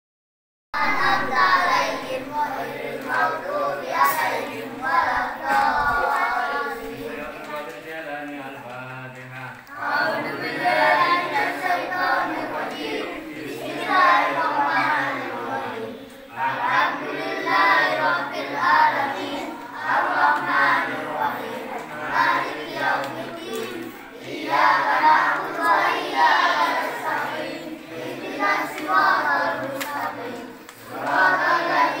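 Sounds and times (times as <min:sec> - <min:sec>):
children chanting in unison: 0:00.8 - 0:07.6, 0:09.7 - 0:32.0.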